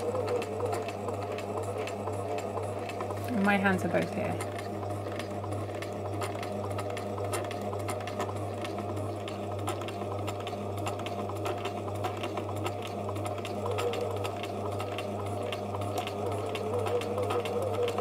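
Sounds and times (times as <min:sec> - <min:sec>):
sewing machine motor hum: 0:00.0 - 0:18.0
sewing needle ticking: 0:00.0 - 0:18.0.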